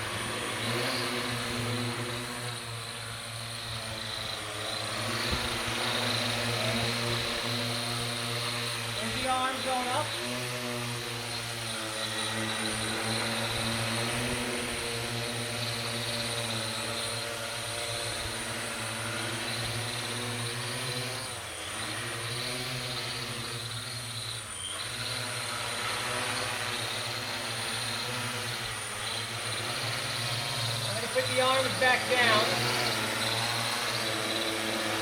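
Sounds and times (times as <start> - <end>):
quadcopter buzzing whine: 0.0 - 35.0.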